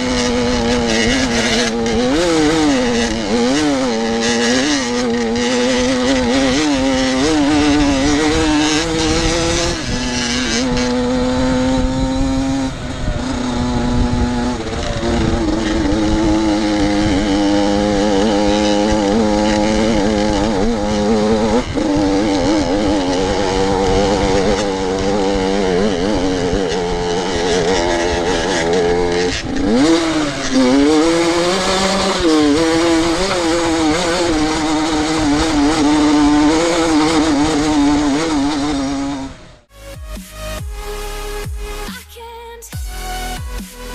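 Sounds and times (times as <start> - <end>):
dirt bike engine revving: 0.0 - 42.1.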